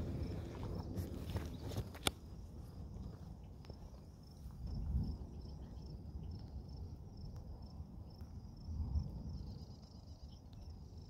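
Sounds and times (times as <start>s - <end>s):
high insect chirps: 0.0s - 11.0s.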